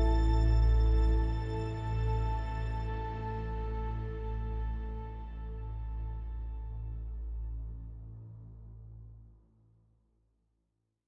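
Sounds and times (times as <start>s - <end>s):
ambient background music: 0.0s - 9.4s.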